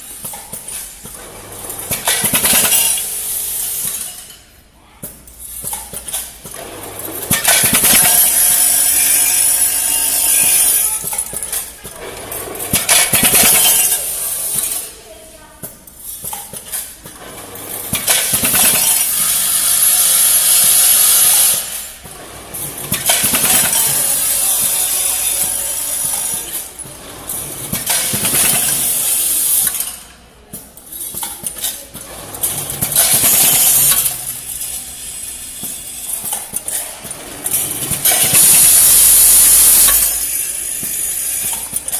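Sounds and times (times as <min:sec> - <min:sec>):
packaging machine noise: 0:00.0 - 0:41.9.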